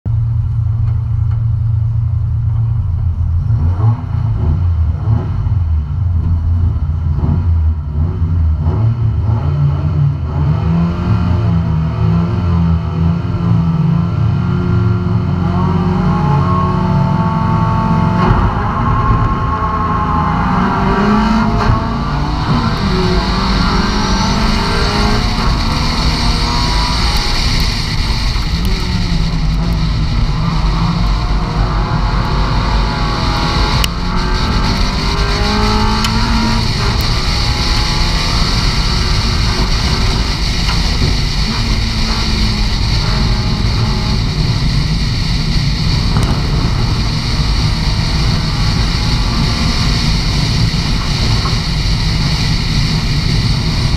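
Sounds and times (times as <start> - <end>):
tyre and wind noise: 2.4 - 53.9
race car engine revving: 3.3 - 53.9.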